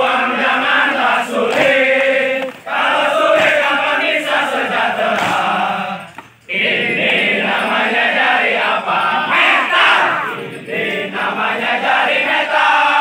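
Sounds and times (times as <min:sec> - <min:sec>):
crowd chanting and shouting: 0:00.0 - 0:13.0.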